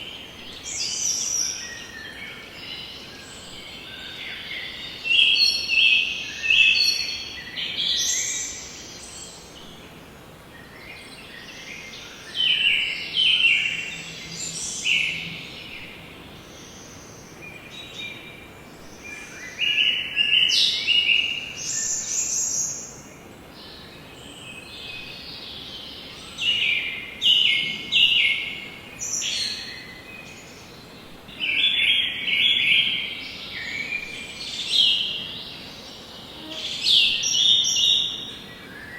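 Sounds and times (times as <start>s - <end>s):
forest birds singing: 0.0s - 38.9s
steady background hiss: 0.0s - 38.9s.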